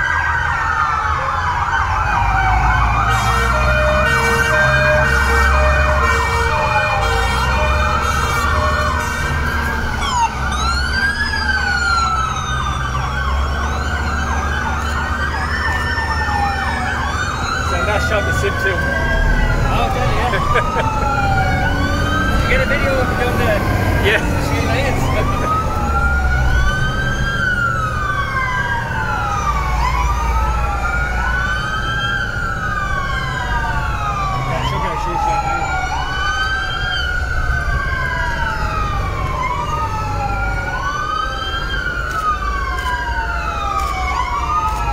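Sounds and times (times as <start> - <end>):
fire engine sirens wailing: 0.0 - 44.9.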